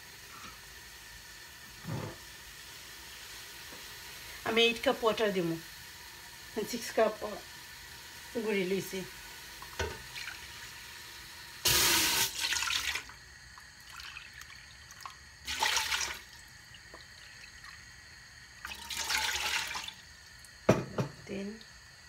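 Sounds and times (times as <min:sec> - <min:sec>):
water pouring into metal pot: 0:03.1 - 0:20.8.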